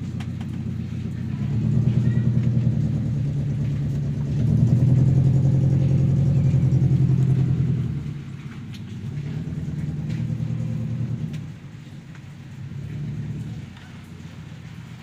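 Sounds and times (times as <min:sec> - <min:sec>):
engine with low pulsing note: 0:00.0 - 0:15.0.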